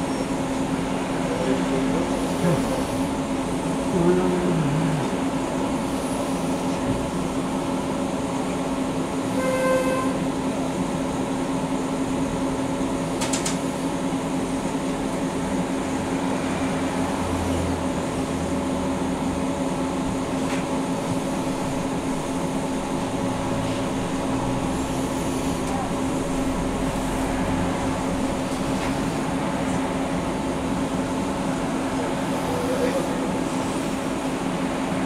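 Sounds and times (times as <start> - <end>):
tram electrical hum: 0.0 - 35.0.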